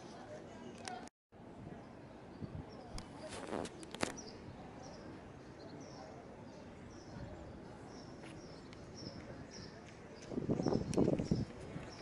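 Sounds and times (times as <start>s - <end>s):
city noise: 0.0s - 12.0s
small birds chirping: 1.8s - 12.0s.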